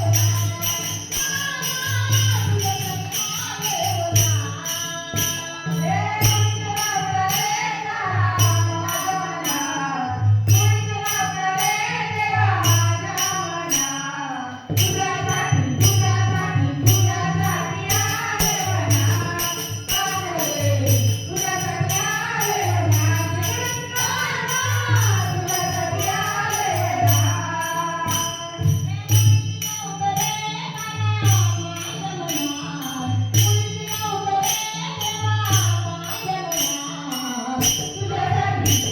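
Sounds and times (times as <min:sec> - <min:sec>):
jingling percussion: 0:00.0 - 0:38.9
woman singing: 0:00.0 - 0:38.9.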